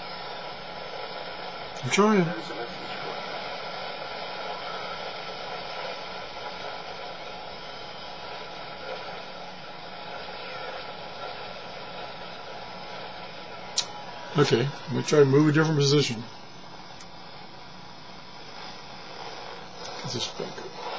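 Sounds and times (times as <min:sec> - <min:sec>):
radio static hiss: 0:00.0 - 0:20.9.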